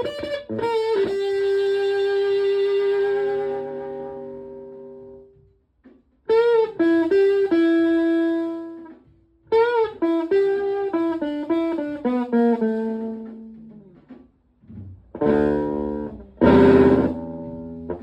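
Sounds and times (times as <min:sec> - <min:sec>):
fuzz electric guitar phrases: 0:00.0 - 0:05.4, 0:06.3 - 0:18.0.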